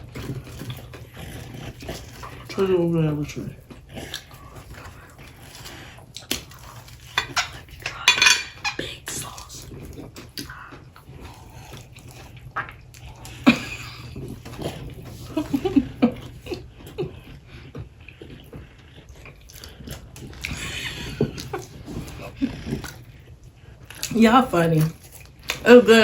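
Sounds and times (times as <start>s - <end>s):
chewing and mouth smacks: 0.0s - 2.6s, 3.6s - 8.1s, 8.8s - 24.2s, 24.8s - 25.6s.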